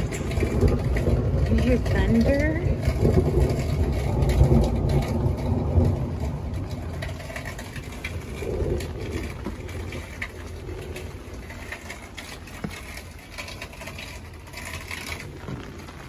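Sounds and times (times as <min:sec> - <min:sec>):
drips ticking: 0:00.0 - 0:16.0
low rumble: 0:00.0 - 0:16.0
steady rain falling: 0:00.0 - 0:16.0.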